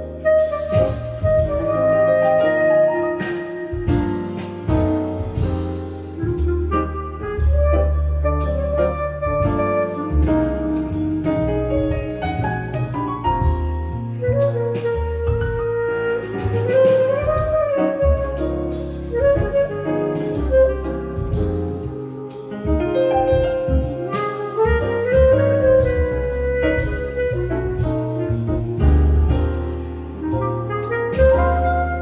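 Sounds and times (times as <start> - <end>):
jazz saxophone melody over piano: 0.0 - 32.0.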